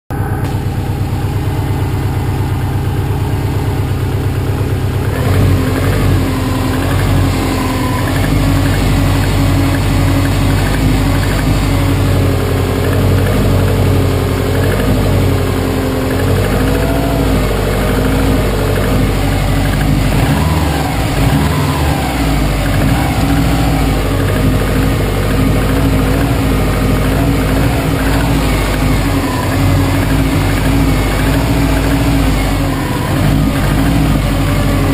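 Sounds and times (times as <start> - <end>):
car engine running with knock: 0.1 - 34.9.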